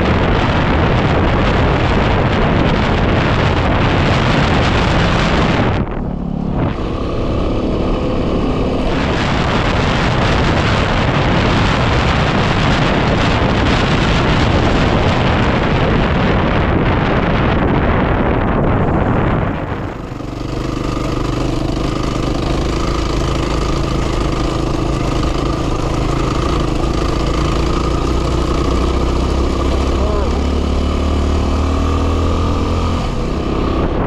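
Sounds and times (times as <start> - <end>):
motorcycle engine running: 0.0 - 34.0
wind buffeting microphone: 0.0 - 34.0.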